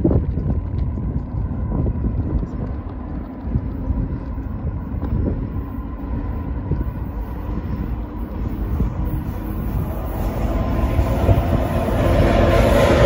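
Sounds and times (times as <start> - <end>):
distant freight train rumble: 0.0 - 13.0
wind buffeting microphone: 0.0 - 13.0.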